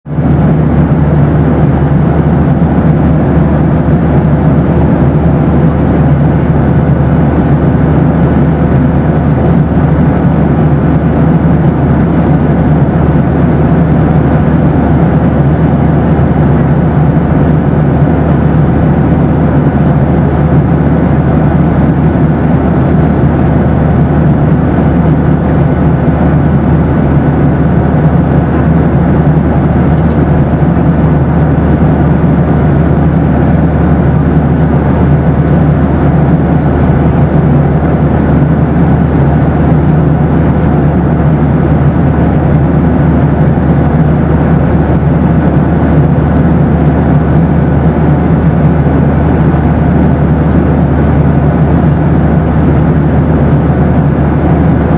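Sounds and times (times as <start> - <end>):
airliner engines rumbling: 0.0 - 54.9
faint steady hum: 0.1 - 54.9.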